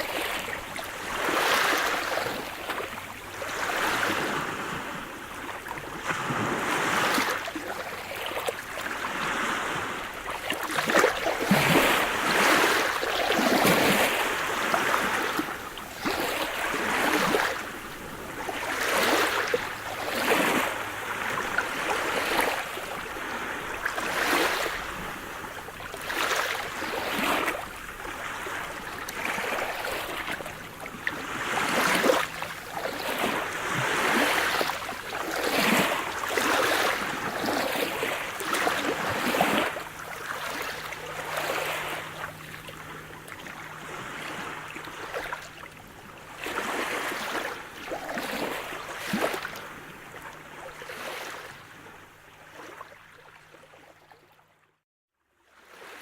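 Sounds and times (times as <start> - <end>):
sea waves washing against shore: 0.0 - 51.8.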